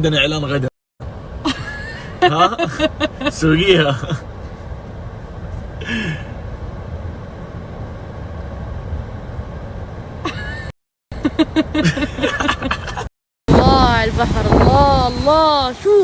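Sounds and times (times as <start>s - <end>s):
car interior road rumble: 1.0s - 16.0s.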